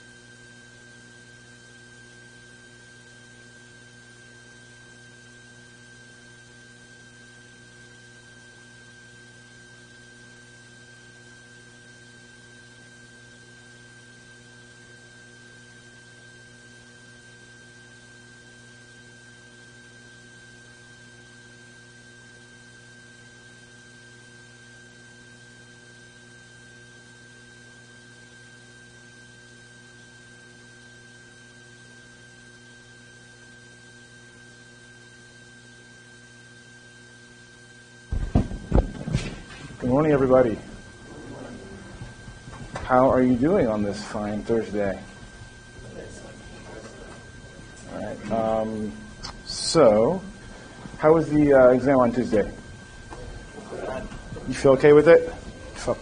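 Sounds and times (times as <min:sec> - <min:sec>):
electrical mains hum: 0:00.0 - 0:56.0
faint high whine and hiss: 0:00.0 - 0:56.0.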